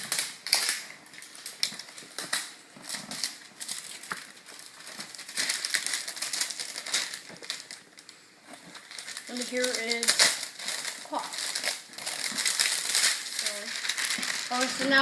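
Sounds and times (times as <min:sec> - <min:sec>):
packaging wrap crinkling: 0:00.0 - 0:15.0.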